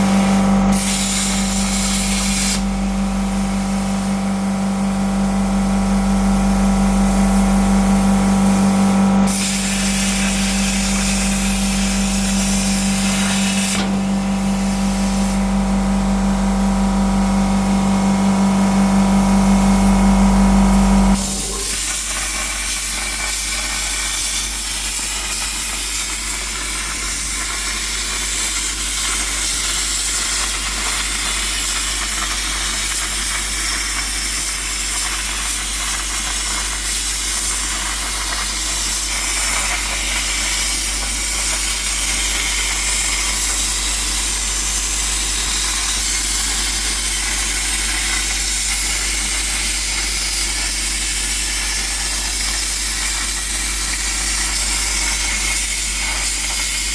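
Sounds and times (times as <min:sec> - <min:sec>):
plasma cutter hissing: 0:00.0 - 0:56.9.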